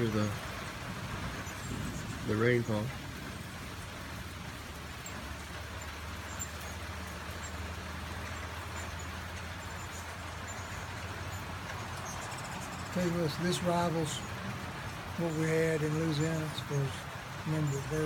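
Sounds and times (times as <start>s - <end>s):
hummingbird chirps: 0.0s - 3.7s, 4.8s - 18.0s
steady rain falling: 0.0s - 18.0s.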